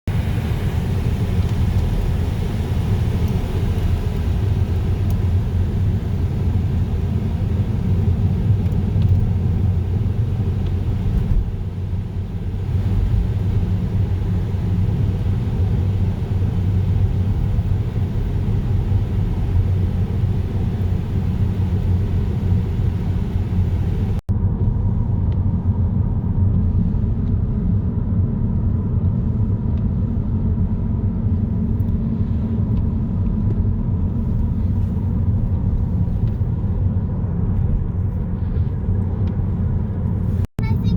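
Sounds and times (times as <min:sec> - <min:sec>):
car tyres and engine rumble: 0:00.1 - 0:40.9.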